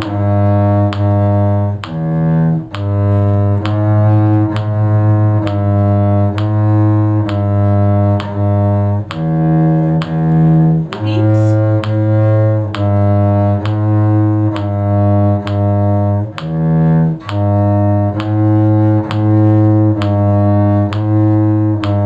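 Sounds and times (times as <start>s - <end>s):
cello bowing low notes: 0.0s - 22.0s.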